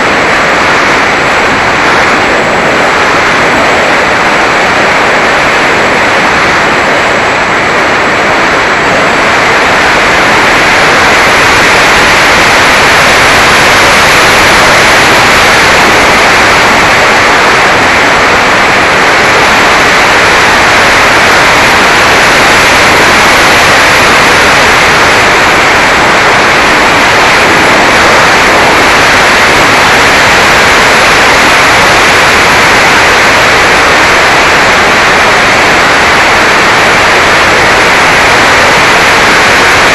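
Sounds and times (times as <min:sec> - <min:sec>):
airflow and motor rush: 0:00.0 - 0:39.9.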